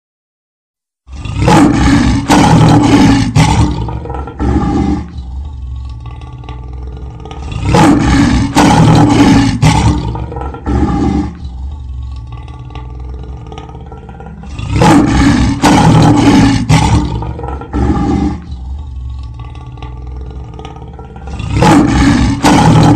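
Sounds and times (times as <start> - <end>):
lion roaring: 1.1 - 22.9.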